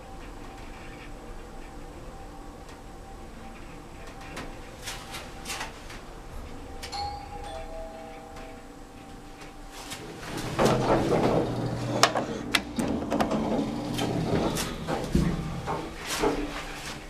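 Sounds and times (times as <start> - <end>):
elevator doors sliding: 0.0 - 17.0
steady low hum: 0.0 - 17.0.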